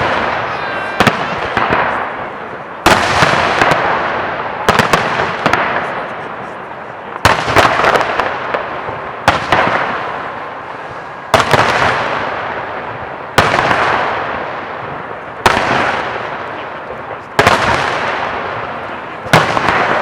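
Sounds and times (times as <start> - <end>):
fireworks bursting: 0.0 - 20.0
fireworks crackle: 0.0 - 20.0.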